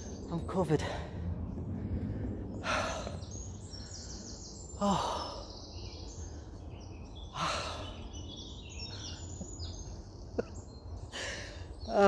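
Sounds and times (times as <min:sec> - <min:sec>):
birds singing: 0:00.0 - 0:12.0.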